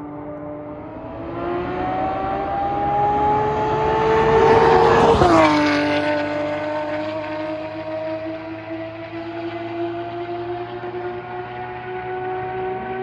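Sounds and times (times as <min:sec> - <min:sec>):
sports car accelerating past: 0:00.0 - 0:13.0.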